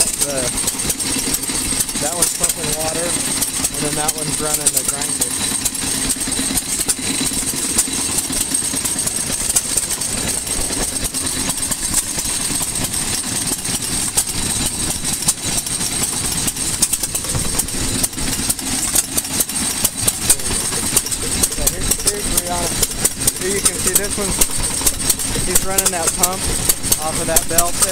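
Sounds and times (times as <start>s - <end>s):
sharp irregular clicks and knocks: 0.0s - 27.9s
stationary gas engines running: 0.0s - 27.9s.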